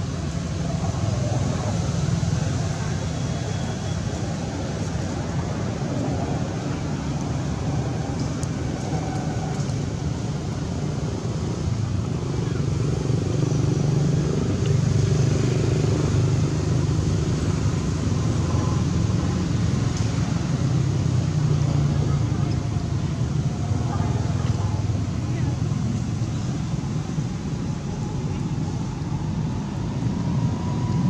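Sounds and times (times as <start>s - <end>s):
vehicle engine rumble: 0.0s - 31.0s.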